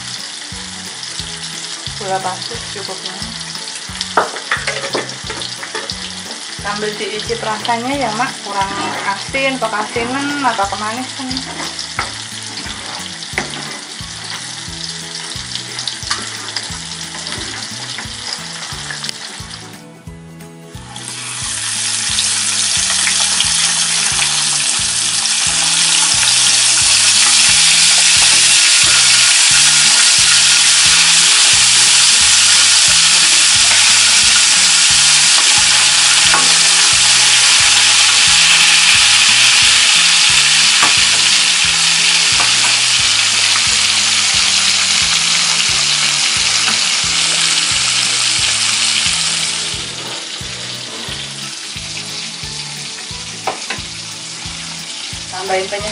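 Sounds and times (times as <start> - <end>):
fish sizzling in hot oil: 0.0 - 19.8, 20.7 - 55.9.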